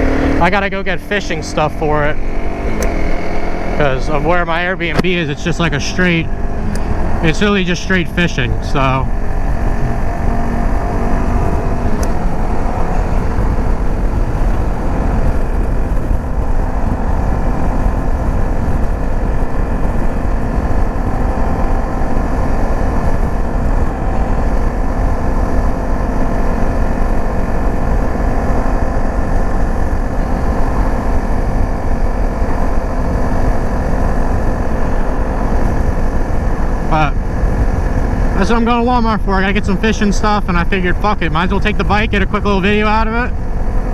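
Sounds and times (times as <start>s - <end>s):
dirt bike engine running: 0.0s - 43.9s
wind rumble on microphone: 0.0s - 43.9s.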